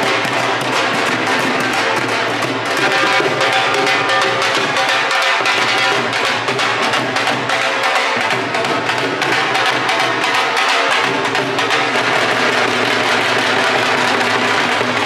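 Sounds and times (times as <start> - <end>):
music with quick drum beat: 0.0 - 15.0.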